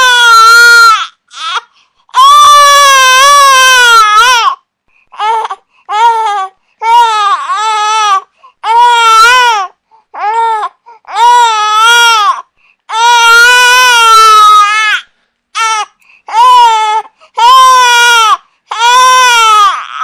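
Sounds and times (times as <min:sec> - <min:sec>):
infant crying: 0:00.0 - 0:20.0.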